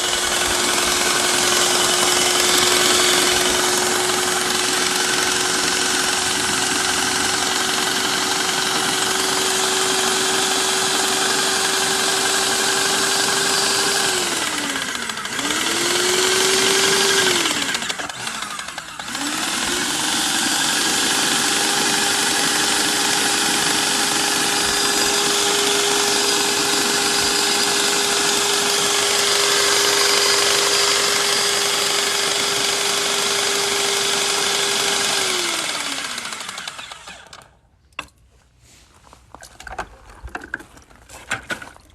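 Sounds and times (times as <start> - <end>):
paint sprayer pump motor running: 0.0 - 37.6.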